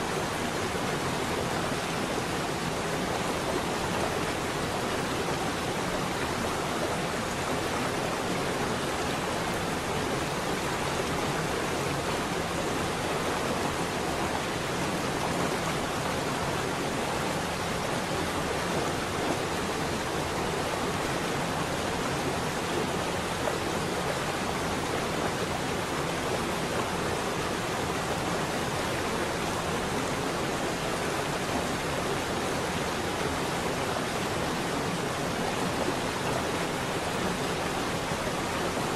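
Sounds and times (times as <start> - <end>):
steady noise hiss: 0.0 - 38.9.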